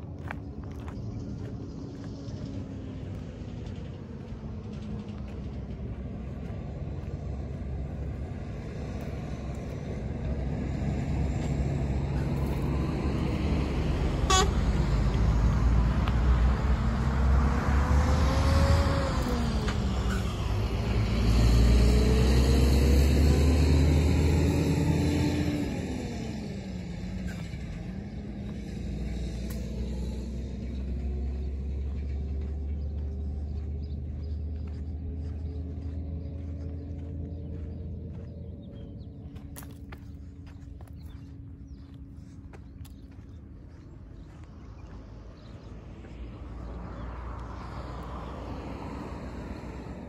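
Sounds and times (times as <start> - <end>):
vehicle engine revving: 0.0 - 50.0.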